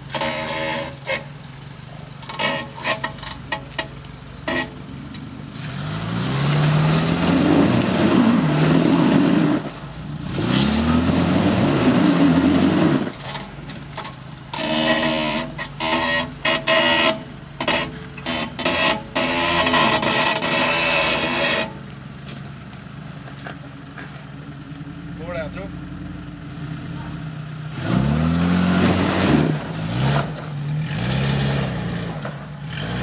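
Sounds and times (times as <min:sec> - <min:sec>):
car engine revving: 0:00.0 - 0:22.0, 0:23.3 - 0:33.0.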